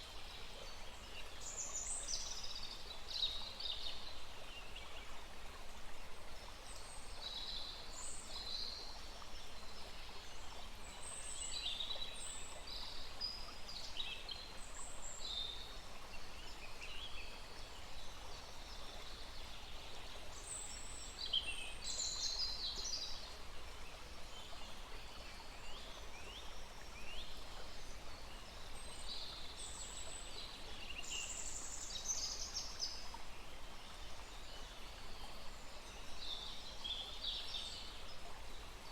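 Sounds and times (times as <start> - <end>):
small stream rushing: 0.0 - 38.9.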